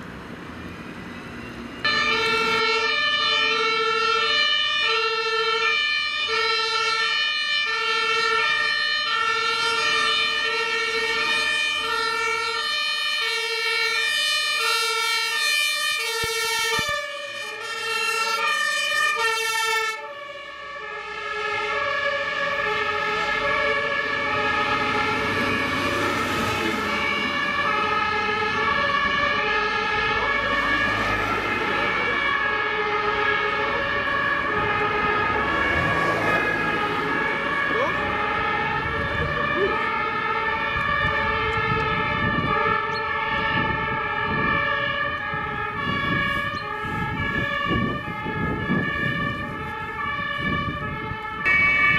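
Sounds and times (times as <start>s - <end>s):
diesel engine and tyres passing: 0.0s - 51.9s
two-tone fire engine siren: 0.0s - 51.9s.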